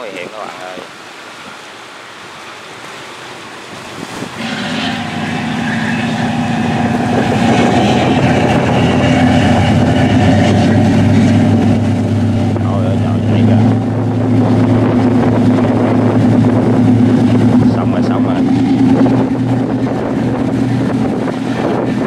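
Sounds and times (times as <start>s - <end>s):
sea waves: 0.0s - 22.0s
wind: 0.0s - 22.0s
boat engine drone: 0.7s - 22.0s.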